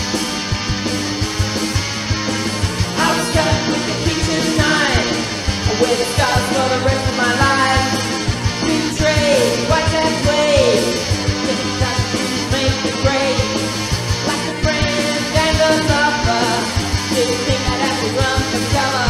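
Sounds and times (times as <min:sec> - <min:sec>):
music with drum beat: 0:00.0 - 0:19.0.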